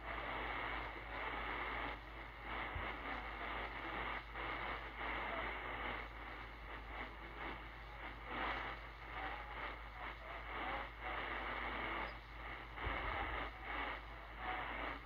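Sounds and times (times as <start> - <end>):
shortwave radio static: 0.0 - 15.0.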